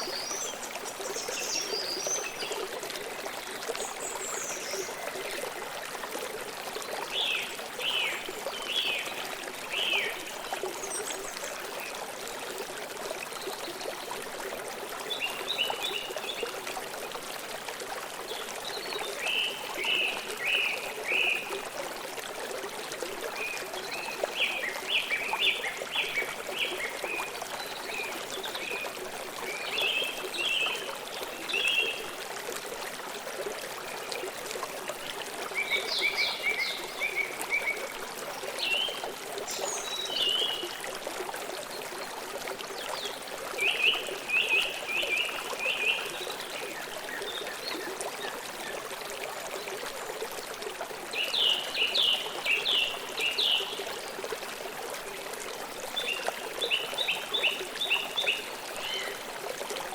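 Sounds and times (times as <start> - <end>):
river flowing over stones: 0.0 - 59.9.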